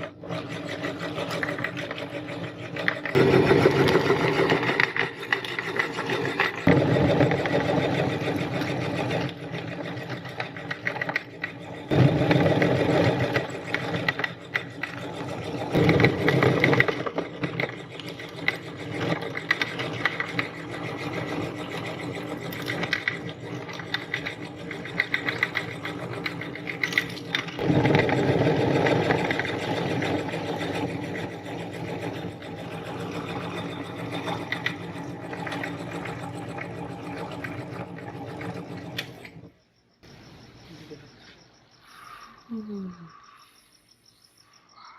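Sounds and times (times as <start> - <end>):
electric meat grinder grinding chalk: 0.0 - 39.5.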